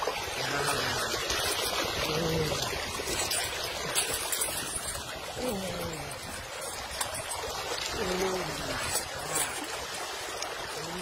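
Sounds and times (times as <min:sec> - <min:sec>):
water sloshing and splashing: 0:00.0 - 0:11.0
chain clinking: 0:00.4 - 0:10.0.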